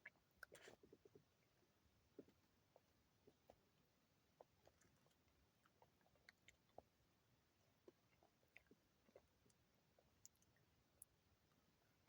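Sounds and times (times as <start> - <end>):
faint eating sounds: 0.0 - 12.0.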